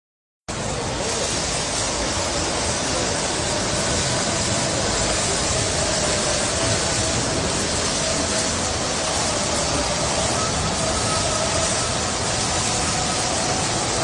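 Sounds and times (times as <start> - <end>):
water spraying: 0.5 - 14.0.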